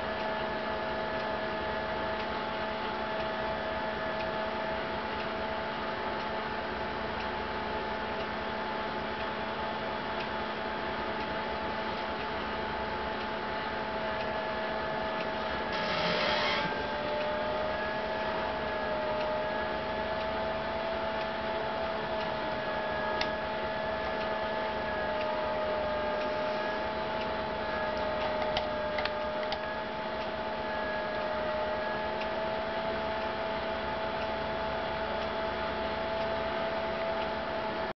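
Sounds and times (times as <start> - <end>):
steady wavering whine: 0.0 - 37.9.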